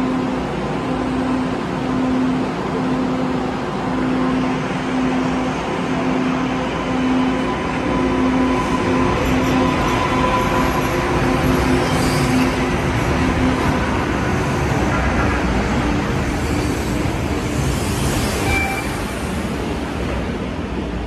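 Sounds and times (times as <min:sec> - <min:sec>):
light-rail train rumbling: 0:00.0 - 0:21.0.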